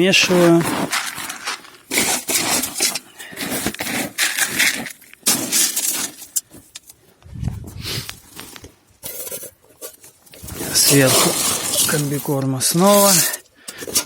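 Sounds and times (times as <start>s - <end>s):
crunchy rustling and scraping: 0.0s - 14.0s.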